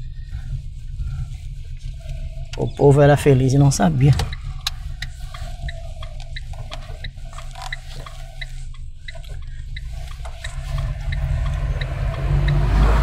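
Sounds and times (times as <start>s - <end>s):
car road rumble: 0.0s - 13.0s
light regular ticking: 1.1s - 13.0s.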